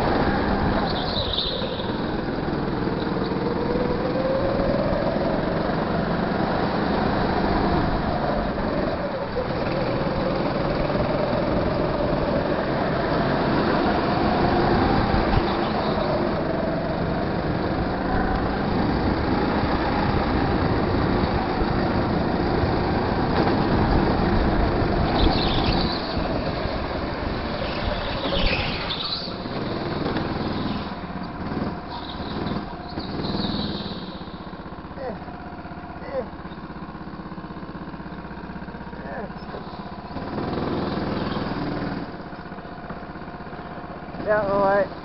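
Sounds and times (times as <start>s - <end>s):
go-kart engine running: 0.0s - 45.0s
other karts nearby: 0.0s - 45.0s.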